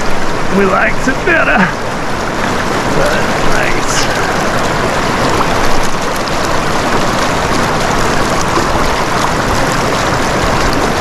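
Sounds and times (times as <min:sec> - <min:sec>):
whitewater rushing over boulders: 0:00.0 - 0:11.0.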